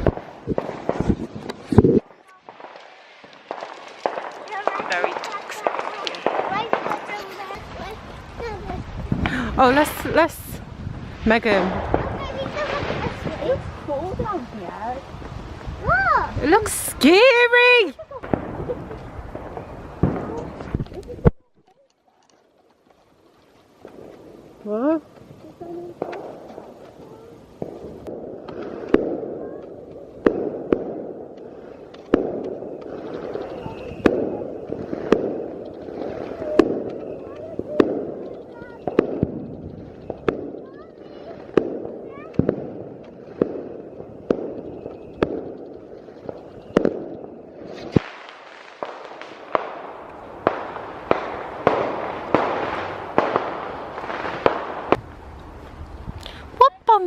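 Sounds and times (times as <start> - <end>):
fireworks banging: 0.0 - 57.0
fireworks rumble and crackle: 0.0 - 57.0.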